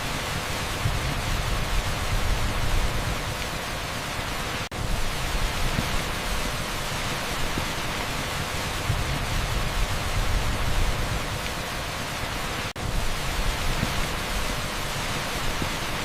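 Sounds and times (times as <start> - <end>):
torrential rain on asphalt: 0.0 - 16.0.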